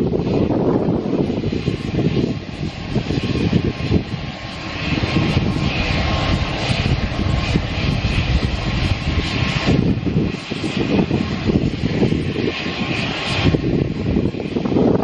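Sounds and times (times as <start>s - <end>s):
aircraft engine rumbling: 0.0s - 15.0s.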